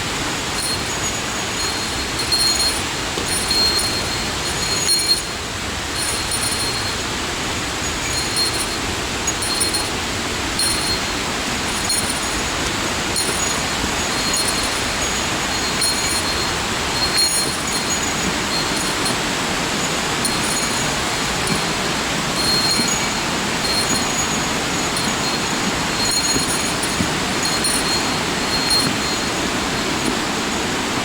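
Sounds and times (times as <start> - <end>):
rushing stream water: 0.0 - 31.0
small bell jingling: 0.0 - 31.0.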